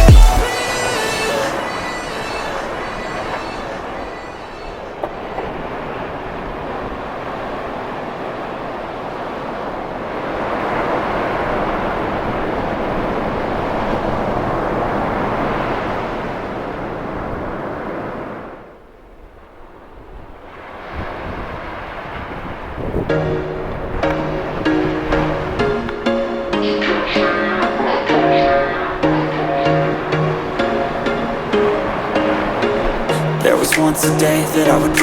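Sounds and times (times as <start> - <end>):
ocean surf washing on beach: 0.5 - 18.8, 19.6 - 35.0.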